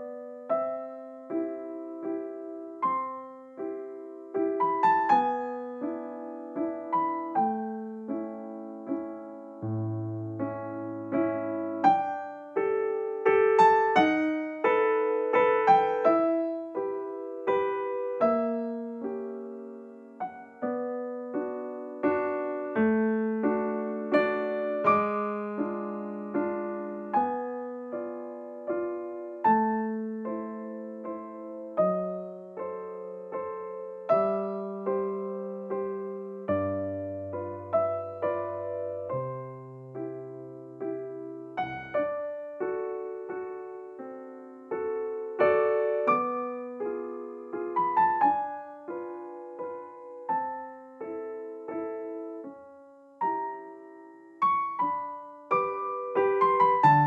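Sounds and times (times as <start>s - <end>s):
gentle piano melody: 0.0s - 57.0s.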